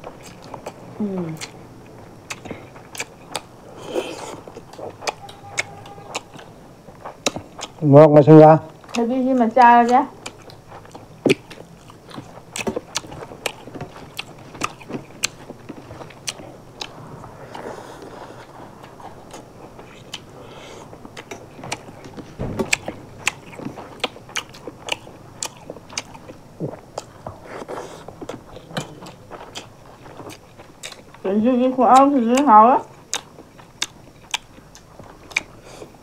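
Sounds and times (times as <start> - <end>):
people chewing and crunching food: 0.0 - 36.0.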